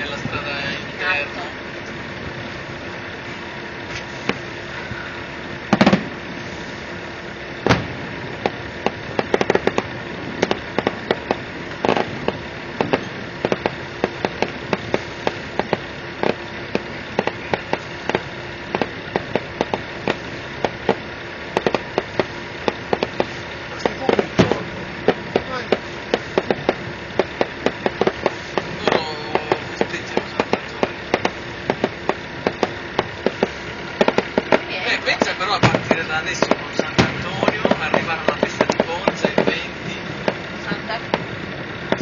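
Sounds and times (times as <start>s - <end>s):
background hum: 0.0s - 42.0s
fireworks bangs: 0.0s - 42.0s
fireworks crackling pops: 0.0s - 42.0s.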